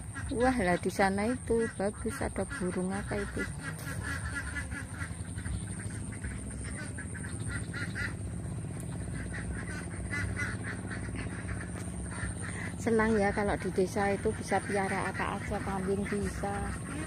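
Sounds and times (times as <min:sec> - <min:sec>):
birds calling: 0:00.0 - 0:17.0
low rumble: 0:00.0 - 0:17.0.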